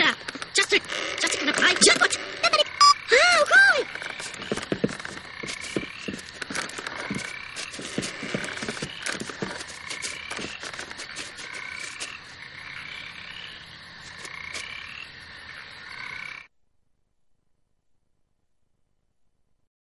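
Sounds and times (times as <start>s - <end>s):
frogs croaking: 0.0s - 16.5s.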